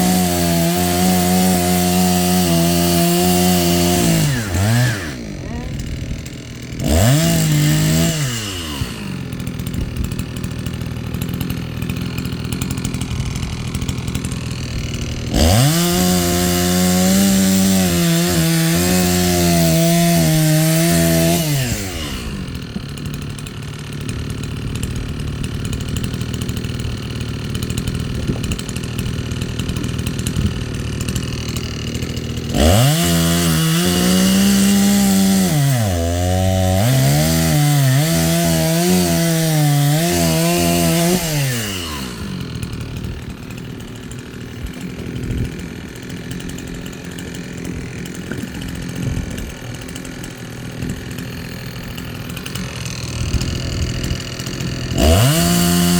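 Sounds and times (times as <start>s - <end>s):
chainsaw idling and revving: 0.0s - 55.9s.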